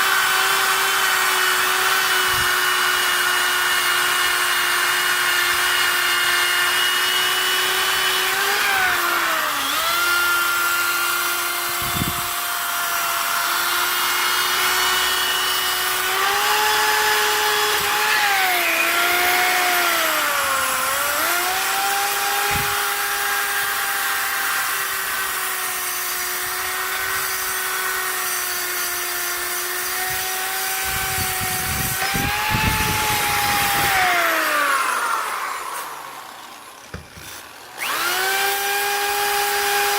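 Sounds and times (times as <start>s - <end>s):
power tool abrasive wheel whining: 0.0s - 39.9s.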